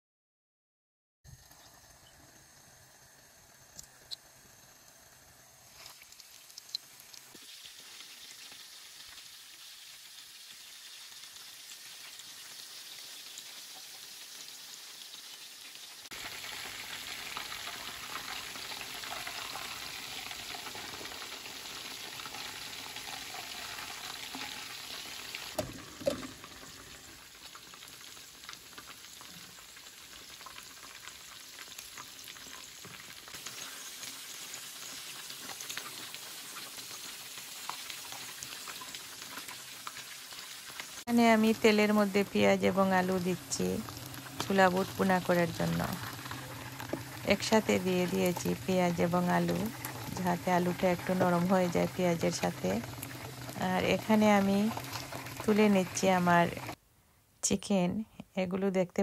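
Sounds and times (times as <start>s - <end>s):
chicken sizzling in hot oil: 4.1s - 56.8s.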